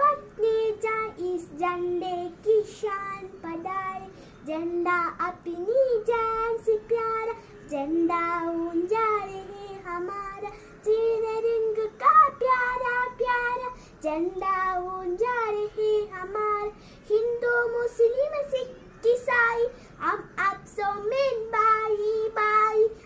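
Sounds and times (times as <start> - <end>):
girl singing solo: 0.0 - 23.0.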